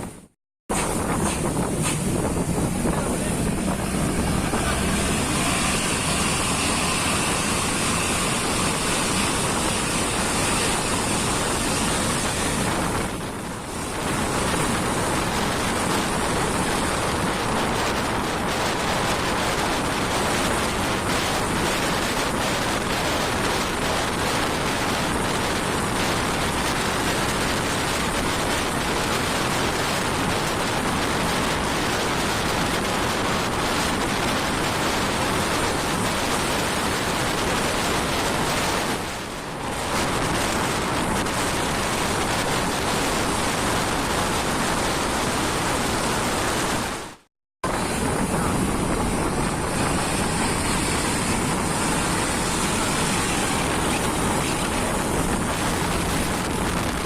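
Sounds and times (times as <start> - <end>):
wind rushing past: 0.0 - 57.0
tyres hissing on wet road: 0.7 - 57.0.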